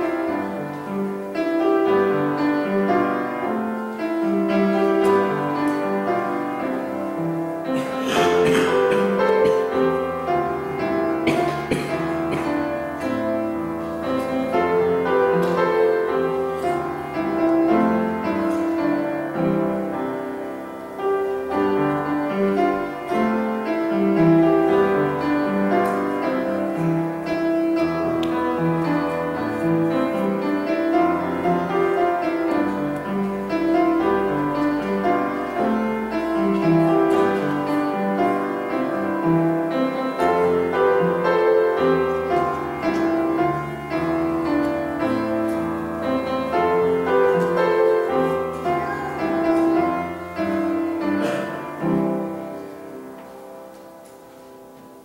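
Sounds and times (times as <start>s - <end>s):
solo piano music: 0.0s - 55.0s.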